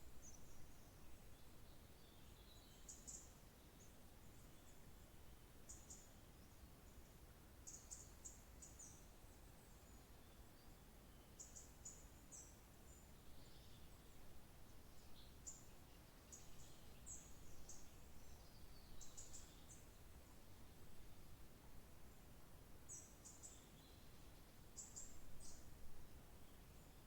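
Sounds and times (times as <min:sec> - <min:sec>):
soft background hiss: 0:00.0 - 0:27.0
songbird chirps: 0:00.0 - 0:27.0.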